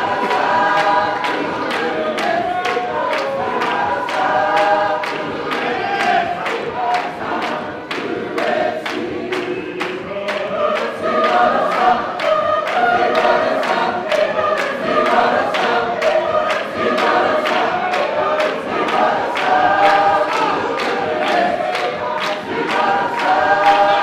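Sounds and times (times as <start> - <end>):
congregation singing: 0.0 - 24.0.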